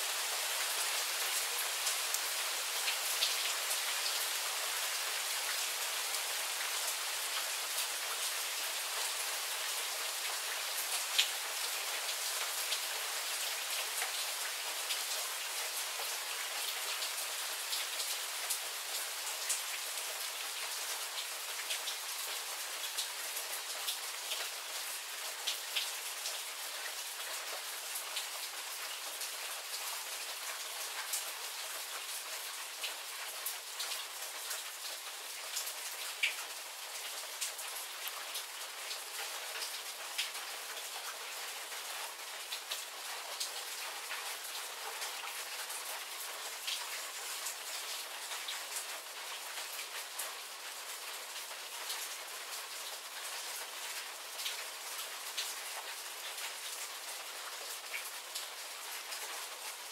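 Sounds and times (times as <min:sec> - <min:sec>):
rain shower with drops striking: 0:00.0 - 0:59.9.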